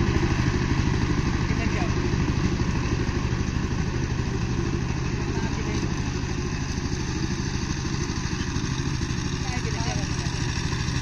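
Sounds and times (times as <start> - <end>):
tiller diesel engine chugging: 0.0 - 11.0.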